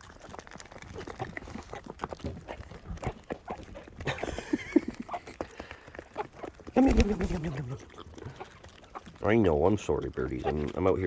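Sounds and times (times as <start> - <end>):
chickens clucking softly: 0.0 - 11.0
chickens pecking at feed: 0.0 - 11.0.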